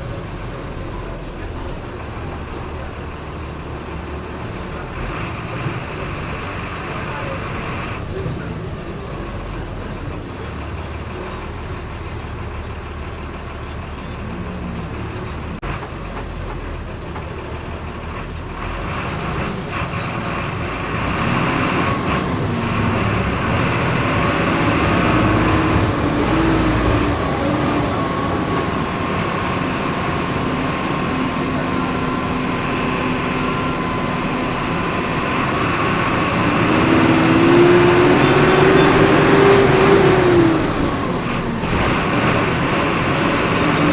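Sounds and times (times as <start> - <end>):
bus engine running under load: 0.0 - 43.9.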